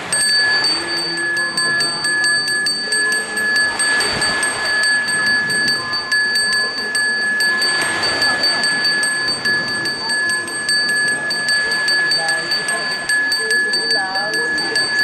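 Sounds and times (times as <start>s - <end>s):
brass hand bell ringing: 0.0s - 15.0s.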